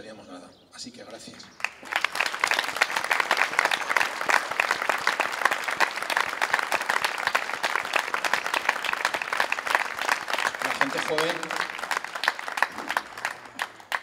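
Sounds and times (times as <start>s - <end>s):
crowd applauding: 1.5s - 14.0s.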